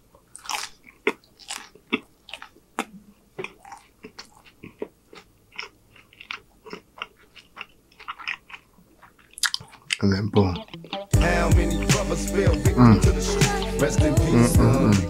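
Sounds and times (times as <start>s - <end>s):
person chewing crunchy food: 0.0s - 14.7s.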